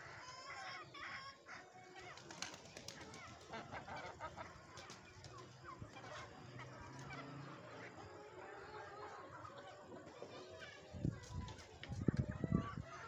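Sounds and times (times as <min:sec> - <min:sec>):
chickens and chicks chirping: 0:00.0 - 0:13.0.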